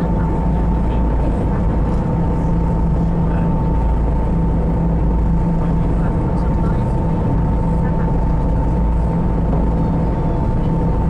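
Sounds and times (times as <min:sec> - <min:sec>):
constant hum: 0:00.0 - 0:11.0
thin steady whine: 0:00.0 - 0:11.0
vehicle rumble: 0:00.0 - 0:11.0.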